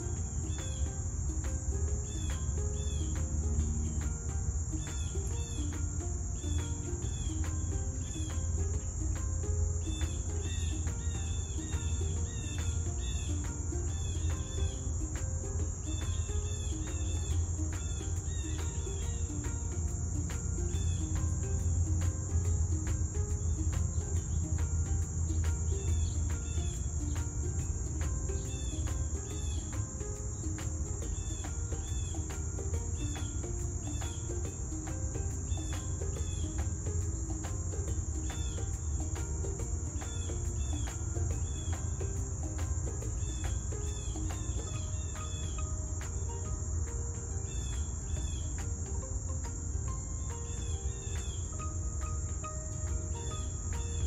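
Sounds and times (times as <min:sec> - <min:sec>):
insects droning: 0:00.0 - 0:54.0
low background rumble: 0:00.0 - 0:54.0.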